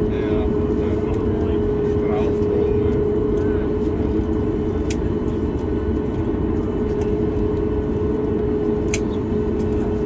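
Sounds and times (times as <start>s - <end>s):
airliner cabin rumble and hum: 0.0s - 10.0s.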